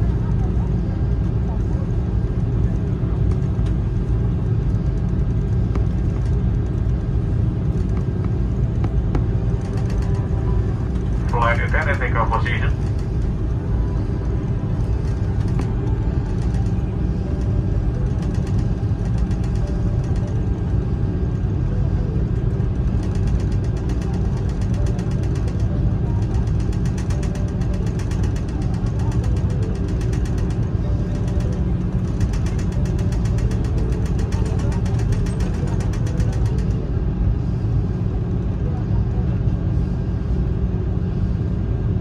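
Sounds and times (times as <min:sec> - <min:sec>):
aircraft cabin rumble while taxiing: 0:00.0 - 0:42.0.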